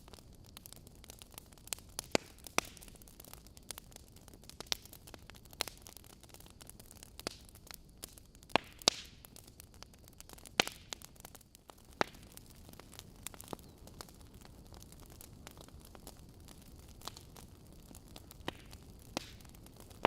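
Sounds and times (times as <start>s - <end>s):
logs crackling in fireplace: 0.0s - 20.0s
loud pops from fire: 0.0s - 20.0s.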